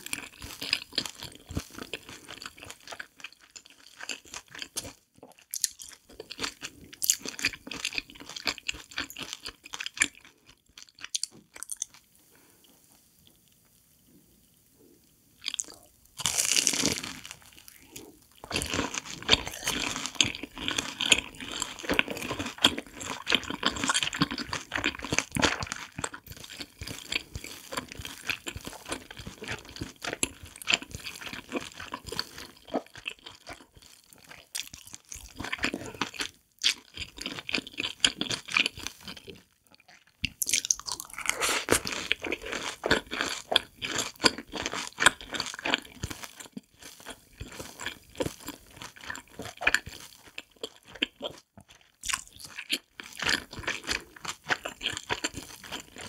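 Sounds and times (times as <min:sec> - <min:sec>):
crunching and chewing corn dog: 0:00.0 - 0:12.1, 0:15.4 - 0:56.0.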